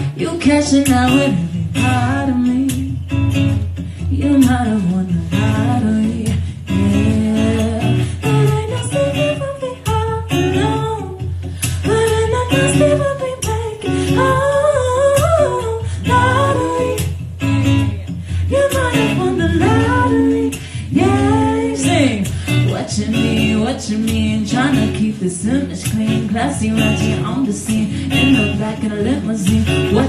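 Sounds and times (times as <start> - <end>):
strummed acoustic guitar: 0.0 - 30.0
woman singing into a microphone: 0.0 - 30.0.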